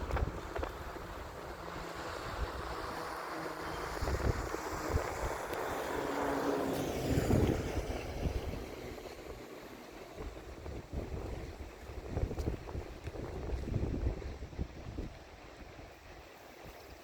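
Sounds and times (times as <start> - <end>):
engine hum: 0.0 - 15.2
wind buffeting microphone: 0.0 - 16.8.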